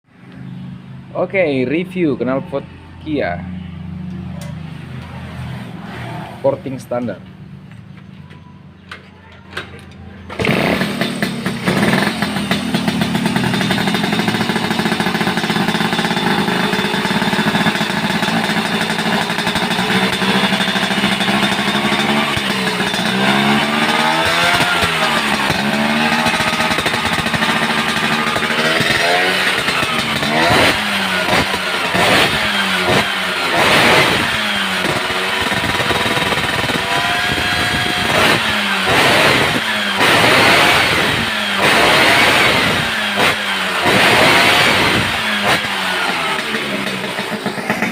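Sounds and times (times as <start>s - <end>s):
scooter engine revving: 9.5s - 47.9s.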